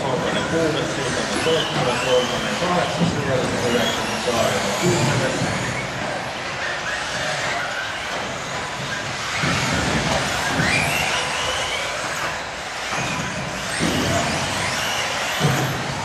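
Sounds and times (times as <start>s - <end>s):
rc car motors whining: 0.0s - 16.0s
steady noisy din: 0.0s - 16.0s.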